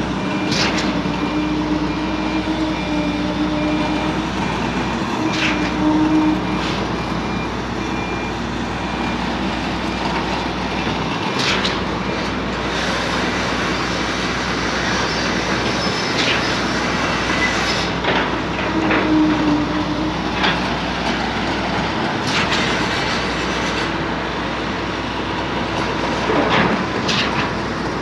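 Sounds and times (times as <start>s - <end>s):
concrete pump running: 0.0s - 28.0s.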